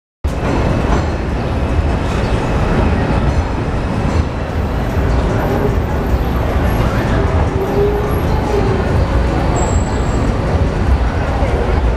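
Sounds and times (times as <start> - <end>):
subway train rumbling on elevated track: 0.3 - 11.9.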